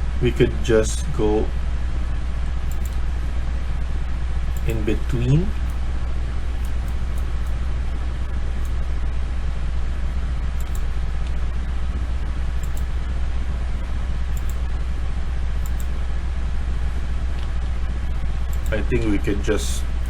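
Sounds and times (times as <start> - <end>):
low-pitched hum: 0.0 - 20.0.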